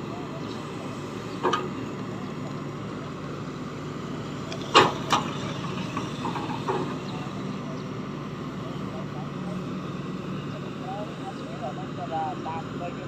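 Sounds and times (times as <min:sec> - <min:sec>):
excavator running: 0:00.0 - 0:13.0.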